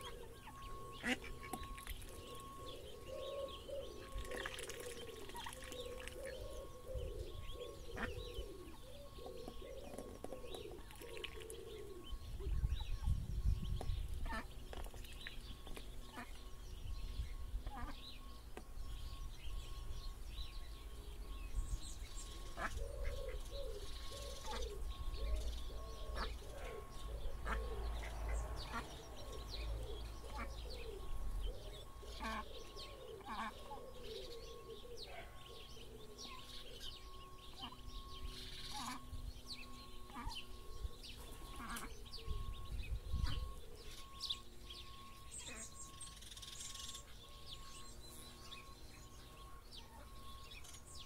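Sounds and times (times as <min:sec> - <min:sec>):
adult bird low calls: 0:00.0 - 0:51.0
ducklings peeping: 0:00.0 - 0:51.0.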